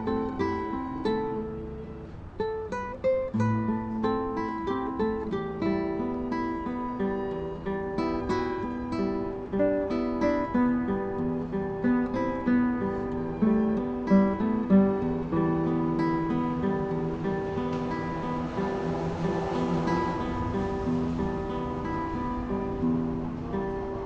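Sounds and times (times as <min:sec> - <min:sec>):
classical guitar duet: 0:00.0 - 0:24.0.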